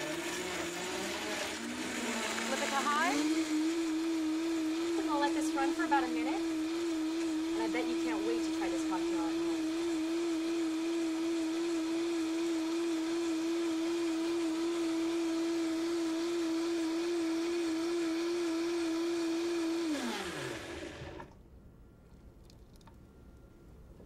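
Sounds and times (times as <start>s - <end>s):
blender running and winding down: 0.0s - 21.3s.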